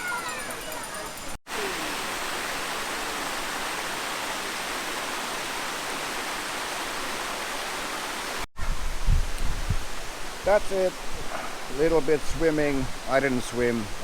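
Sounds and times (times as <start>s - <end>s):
waterfall rushing: 1.5s - 9.0s, 9.8s - 14.0s.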